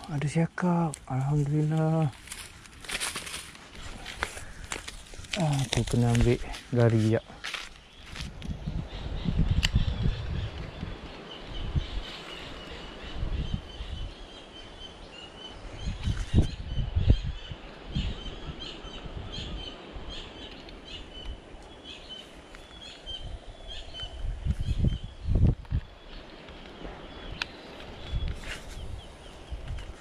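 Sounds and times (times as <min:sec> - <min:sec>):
steady outdoor hiss: 0:00.0 - 0:30.0
small birds chirping: 0:03.6 - 0:30.0.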